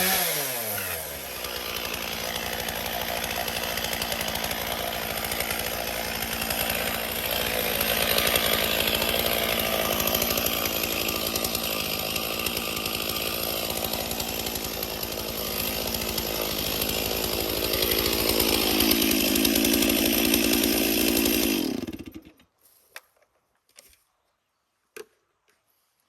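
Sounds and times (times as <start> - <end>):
chainsaw cutting branch: 0.0 - 22.4.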